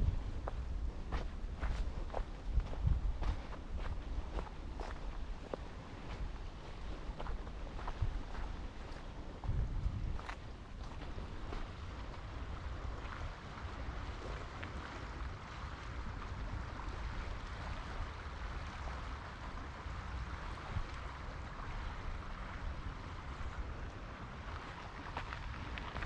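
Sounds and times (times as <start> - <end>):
steady rushing outdoor noise: 0.0 - 26.0.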